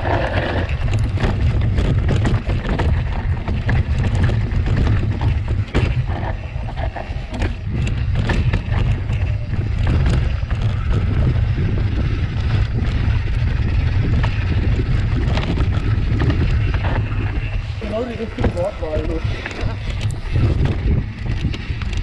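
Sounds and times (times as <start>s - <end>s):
bike rattling and knocking: 0.0s - 22.0s
wind buffeting microphone: 0.0s - 22.0s.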